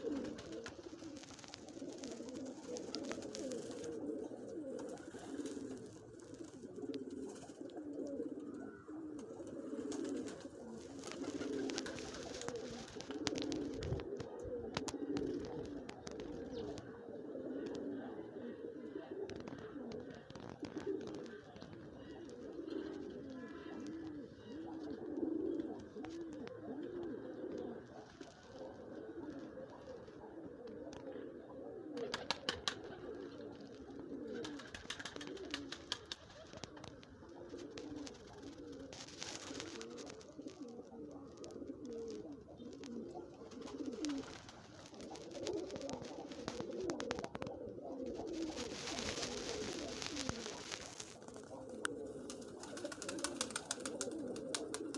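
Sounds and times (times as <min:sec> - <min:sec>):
turtle doves cooing: 0:00.0 - 0:54.9.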